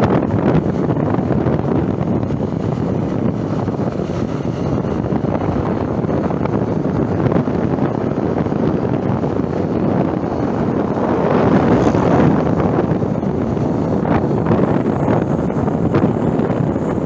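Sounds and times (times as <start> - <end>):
motorcycle engine and road noise: 0.0 - 17.0
wind rushing over microphone: 0.0 - 17.0.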